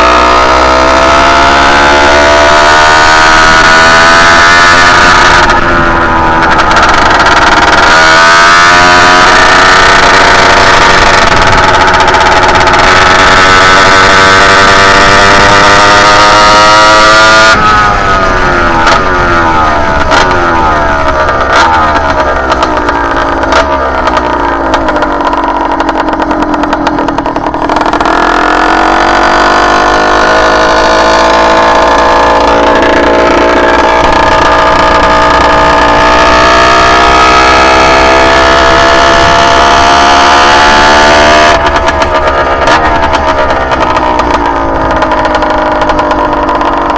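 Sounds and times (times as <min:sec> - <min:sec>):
two-stroke engine revving: 0:00.0 - 0:46.9.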